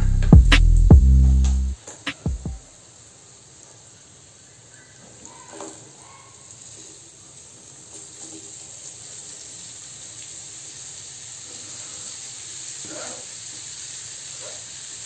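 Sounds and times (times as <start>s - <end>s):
faint sizzle of frying in oil: 2.7s - 15.0s.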